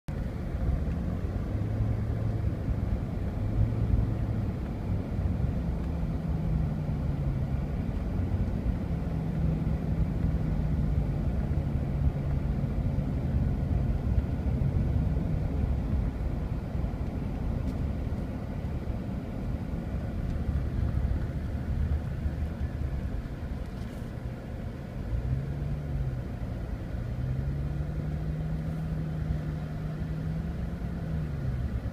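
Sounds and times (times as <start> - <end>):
road and engine rumble: 0.0 - 31.9
low engine hum: 0.1 - 31.9.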